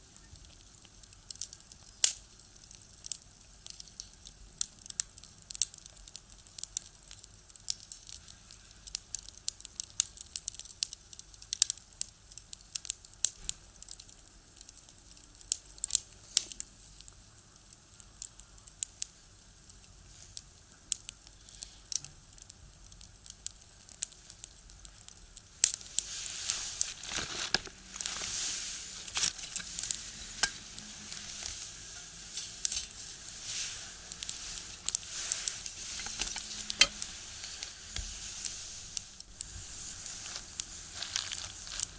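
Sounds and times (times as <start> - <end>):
firewood crackling and popping: 0.0 - 41.9
steady hissing sizzle: 0.0 - 41.9.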